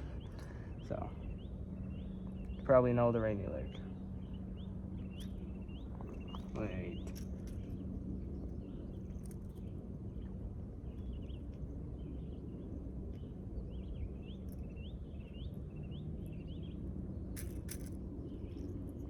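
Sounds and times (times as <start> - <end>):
faint constant hum: 0.0 - 19.0
low outdoor rumble: 0.0 - 19.0
small bird chirping: 3.5 - 19.0.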